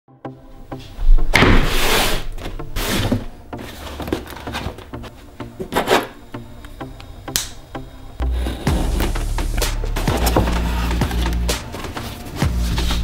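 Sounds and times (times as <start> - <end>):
soft background music: 0.1 - 13.0.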